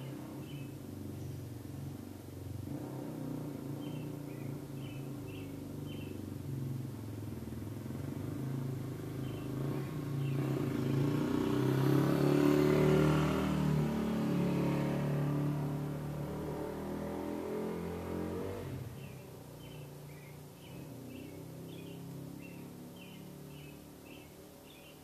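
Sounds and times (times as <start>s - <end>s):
vehicle engine running: 0.0s - 17.4s, 18.0s - 25.0s.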